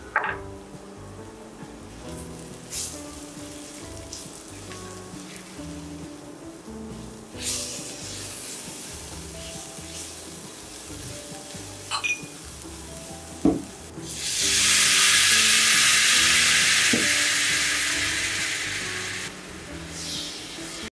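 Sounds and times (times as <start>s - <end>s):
loud steady sizzle: 0.0s - 20.9s
onions frying in oil: 1.2s - 20.9s.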